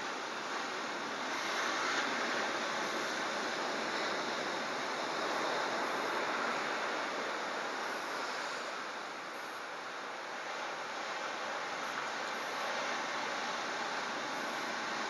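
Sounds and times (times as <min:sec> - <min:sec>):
surf rushing: 0:00.0 - 0:15.0.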